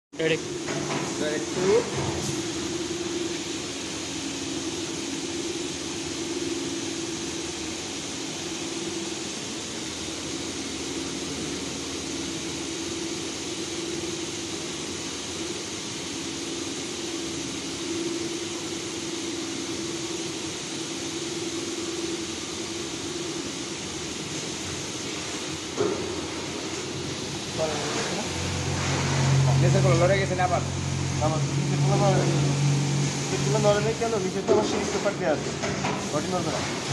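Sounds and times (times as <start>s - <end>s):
fan and air-conditioning hiss: 0.1s - 36.9s
low machine hum: 0.2s - 36.9s.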